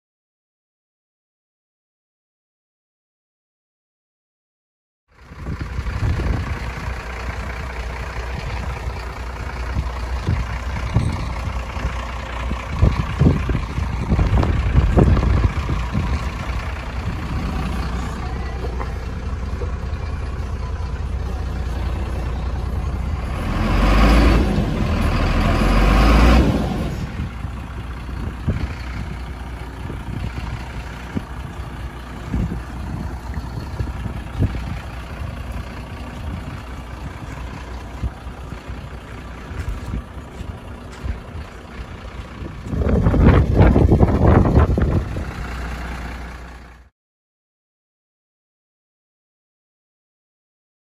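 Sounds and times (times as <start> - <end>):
lorry diesel engine: 5.1 - 46.9
road rumble: 5.1 - 46.9.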